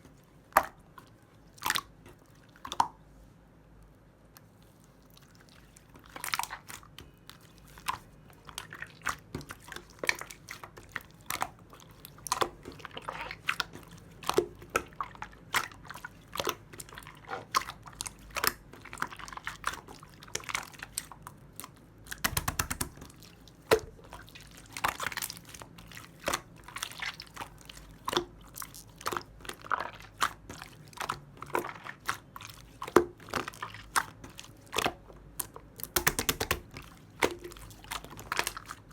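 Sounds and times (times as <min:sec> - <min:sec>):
hands kneading sticky slime: 0:00.0 - 0:03.2, 0:04.3 - 0:38.9.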